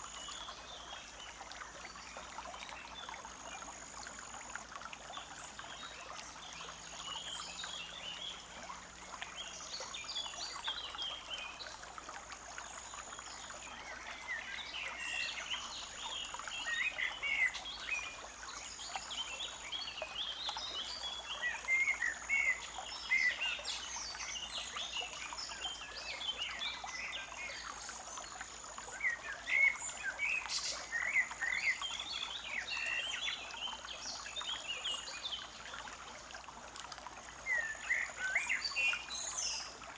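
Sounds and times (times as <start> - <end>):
forest stream rushing: 0.0 - 39.9
songbirds chirping and twittering: 0.0 - 39.9.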